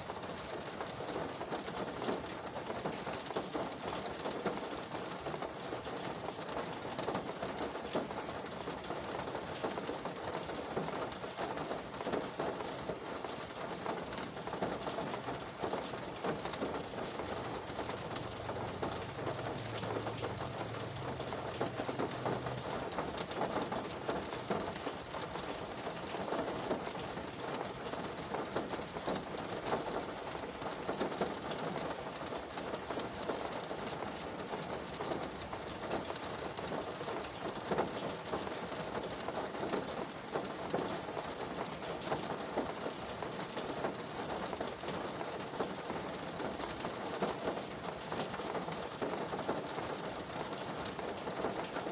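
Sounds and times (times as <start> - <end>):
rain on a car roof: 0.0 - 51.9.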